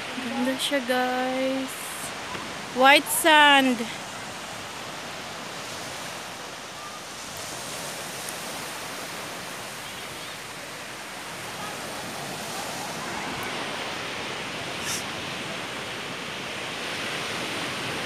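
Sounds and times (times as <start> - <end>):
surf washing onto beach: 0.0 - 18.0.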